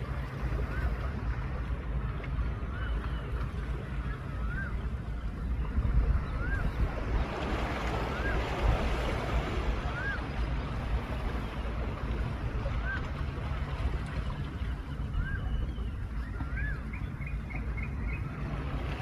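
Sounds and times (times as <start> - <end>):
wind buffeting microphone: 0.0 - 17.3
sea waves breaking: 0.0 - 19.0.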